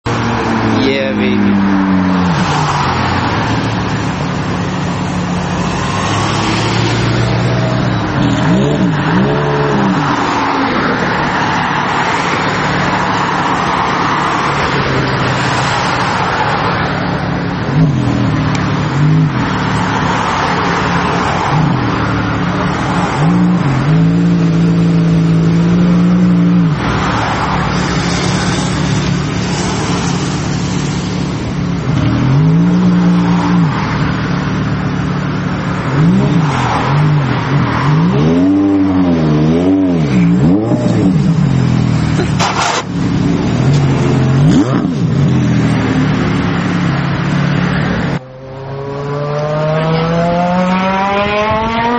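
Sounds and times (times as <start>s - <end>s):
road and traffic noise: 0.0s - 51.9s
sports car engine revving: 0.1s - 51.9s.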